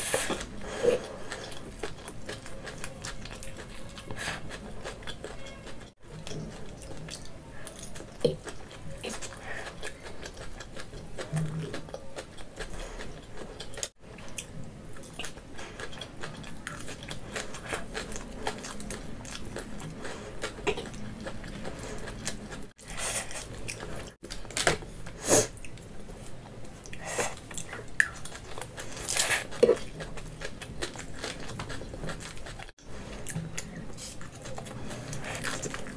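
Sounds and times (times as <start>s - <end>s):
person chewing noodles: 0.0s - 24.3s, 25.1s - 35.9s.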